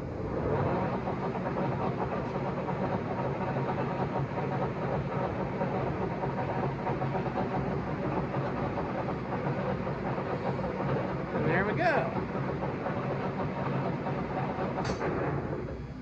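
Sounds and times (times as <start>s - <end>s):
lathe running: 0.0s - 16.0s
tripod vibration noise: 0.3s - 15.9s.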